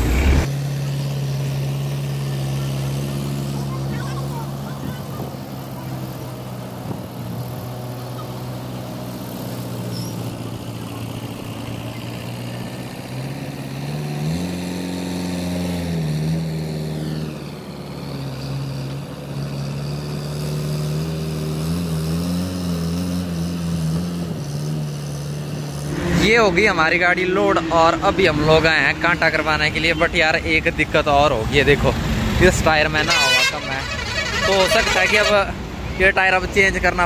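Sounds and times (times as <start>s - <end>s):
diesel crane engine revving: 0.0s - 37.0s.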